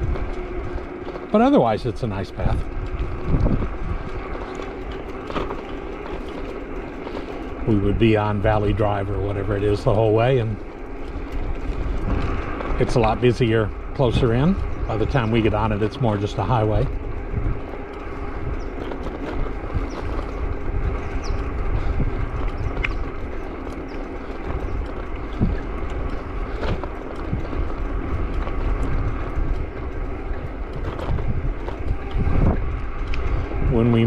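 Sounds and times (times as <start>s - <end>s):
traffic passing: 0.0s - 34.0s
wind and road noise: 0.0s - 34.0s.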